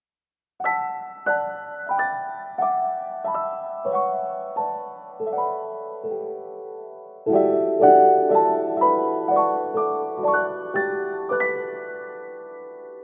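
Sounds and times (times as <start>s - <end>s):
soft piano chords: 0.6s - 13.0s.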